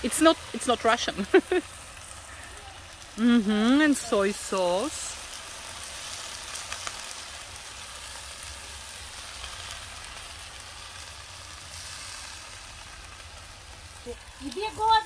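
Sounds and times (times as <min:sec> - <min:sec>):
faint crackles: 0:00.0 - 0:15.0
shrimp sizzling in a pan: 0:00.0 - 0:15.0.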